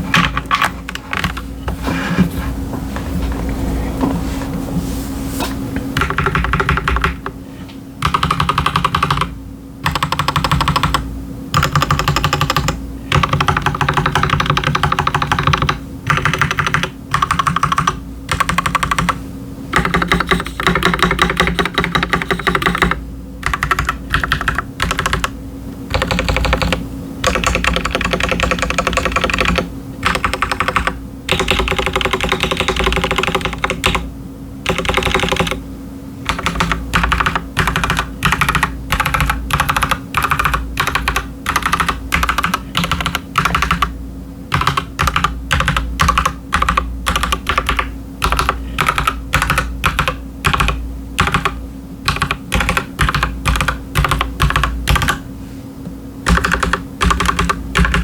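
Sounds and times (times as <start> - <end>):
mechanical keyboard typing: 6.0 - 7.3, 8.0 - 35.6, 36.3 - 43.9, 44.5 - 55.2, 56.2 - 58.0.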